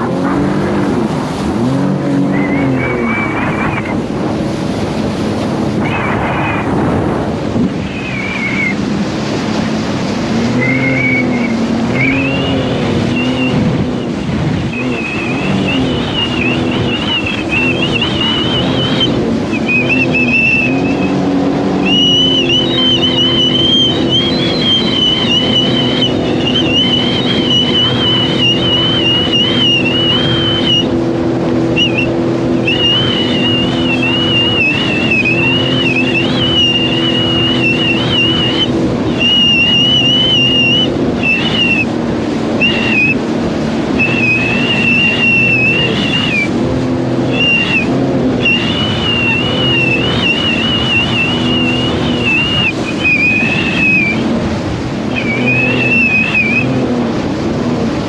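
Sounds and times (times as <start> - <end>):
high whine: 0.0 - 57.2
personal watercraft engine cruising: 0.0 - 58.0.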